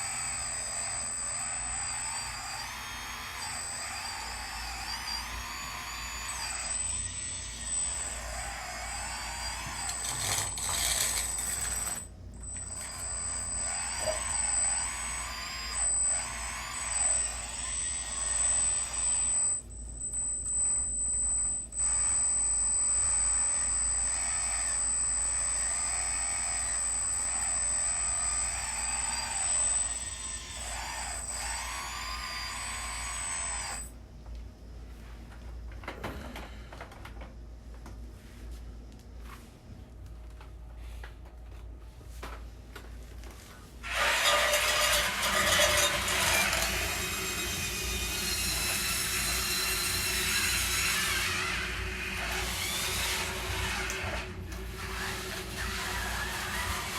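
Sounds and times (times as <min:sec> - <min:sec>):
electric motors whining: 0:00.0 - 0:33.9, 0:43.8 - 0:56.9.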